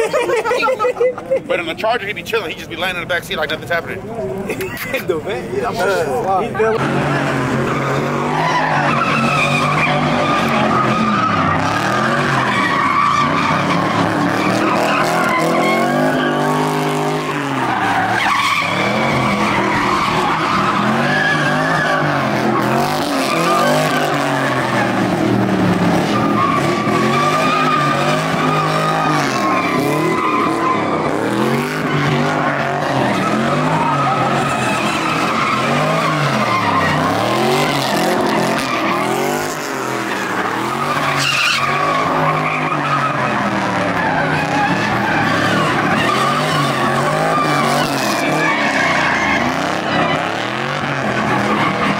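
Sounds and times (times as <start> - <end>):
tires squealing: 0.0 - 51.9
car engine revving: 5.4 - 51.9.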